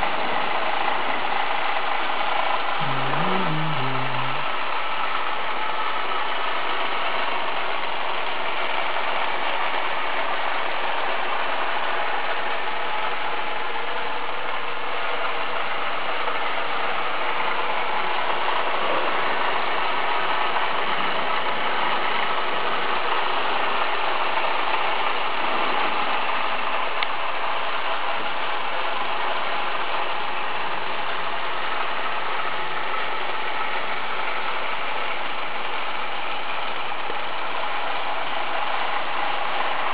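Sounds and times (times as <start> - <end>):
model coaster motor and gearing: 0.0 - 39.9.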